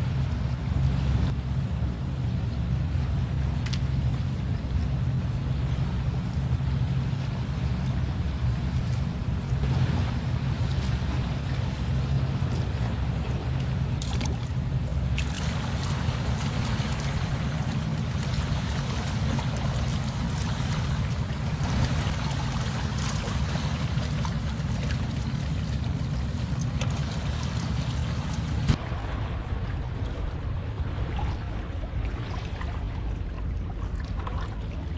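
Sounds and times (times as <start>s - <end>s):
surf washing: 0.0s - 34.9s
wind: 0.0s - 34.9s.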